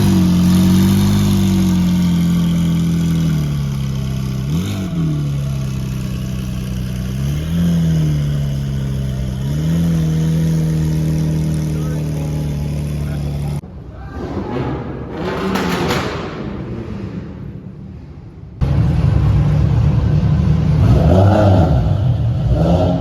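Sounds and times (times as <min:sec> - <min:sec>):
car engine revving: 0:00.0 - 0:13.6, 0:14.2 - 0:23.0.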